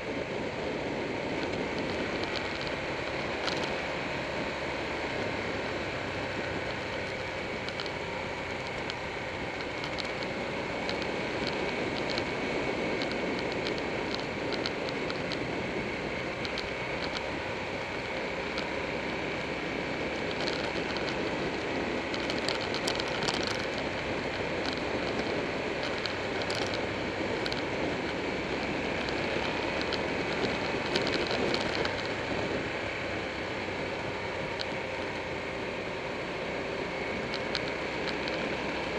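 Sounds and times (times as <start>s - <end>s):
motorcycle engine: 0.0s - 38.9s
road noise: 0.0s - 38.9s
light ticks: 1.3s - 4.0s, 6.3s - 15.5s, 16.3s - 18.8s, 20.0s - 32.7s, 33.5s - 38.9s.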